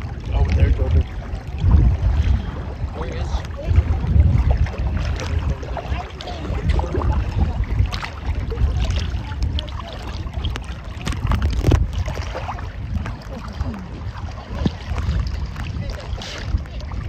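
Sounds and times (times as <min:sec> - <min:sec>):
low rumble of waves: 0:00.0 - 0:17.0
seawater sloshing and splashing: 0:00.0 - 0:17.0
small splashes and drips: 0:00.0 - 0:17.0.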